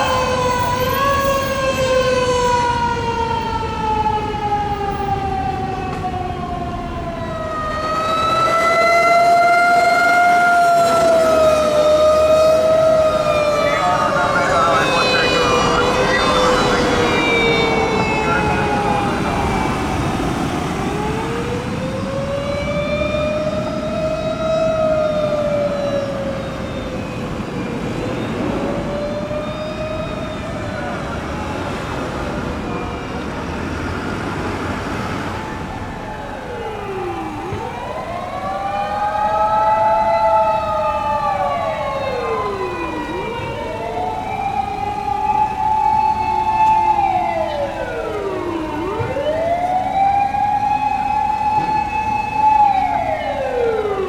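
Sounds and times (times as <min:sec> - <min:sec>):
fire engine sirens wailing: 0:00.0 - 0:54.0
road noise: 0:00.0 - 0:54.0.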